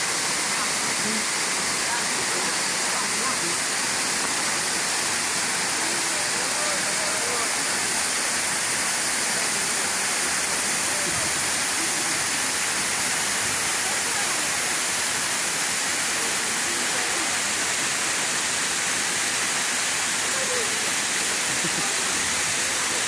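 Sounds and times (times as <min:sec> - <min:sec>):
rush of falling water: 0:00.0 - 0:23.0.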